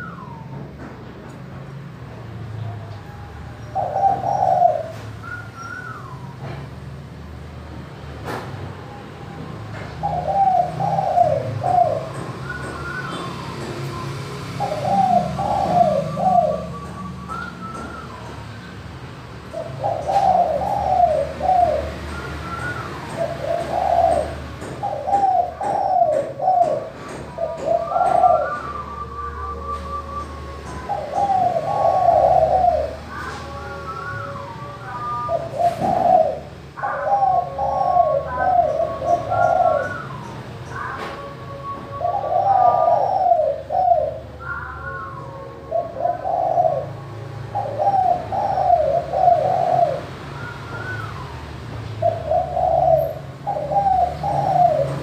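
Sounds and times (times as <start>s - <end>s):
dove cooing: 0.0s - 0.9s, 2.6s - 6.8s, 8.9s - 55.0s.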